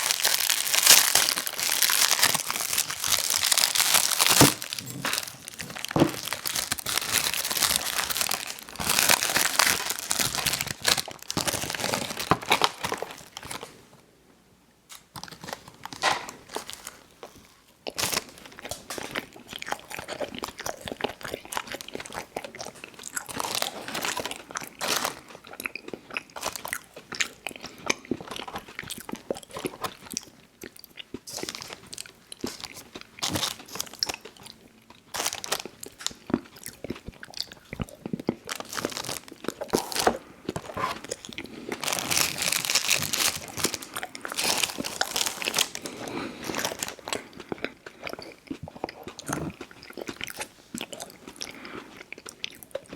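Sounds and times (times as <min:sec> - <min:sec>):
biting and chewing snack cakes: 0:00.0 - 0:13.8, 0:14.9 - 0:52.9
crisp crunches and mouth clicks: 0:00.0 - 0:13.8, 0:14.9 - 0:52.9.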